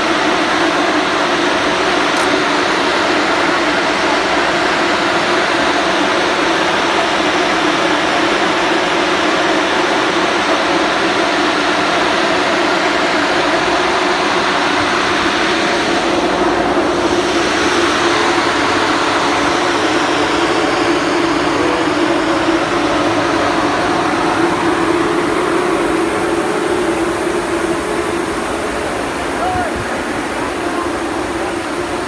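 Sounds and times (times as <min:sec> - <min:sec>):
grain dryer machinery drone: 0:00.0 - 0:32.0.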